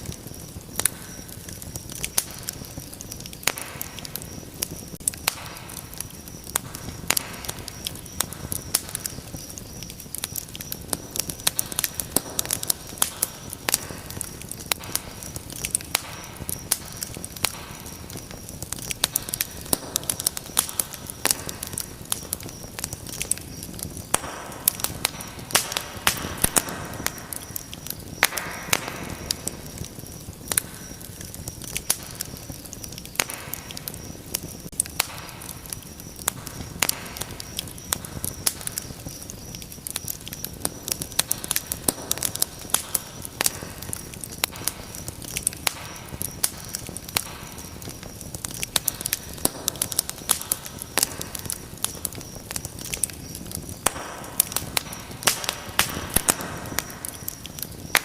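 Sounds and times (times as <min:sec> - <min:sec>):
rush of flames: 0:00.0 - 0:58.0
wood fire crackling and popping: 0:00.0 - 0:58.0.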